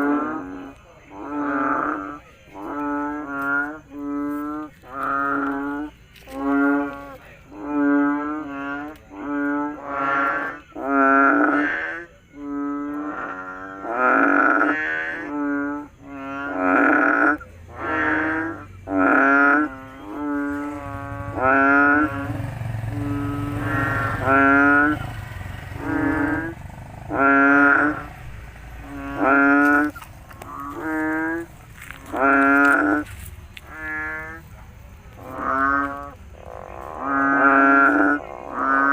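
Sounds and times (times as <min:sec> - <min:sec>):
frogs croaking: 0:00.0 - 0:38.9.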